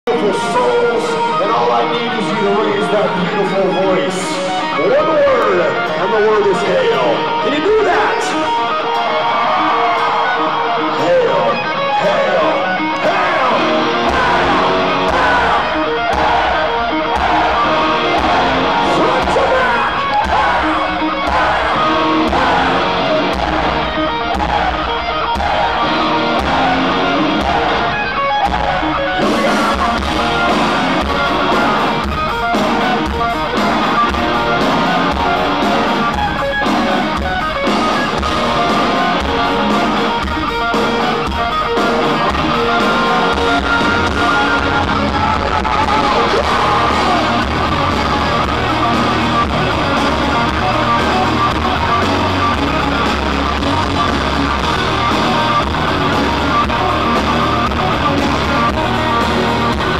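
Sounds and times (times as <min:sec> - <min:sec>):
electric guitar riff: 0:00.1 - 0:59.9
heavy metal band playing live: 0:00.1 - 0:59.9.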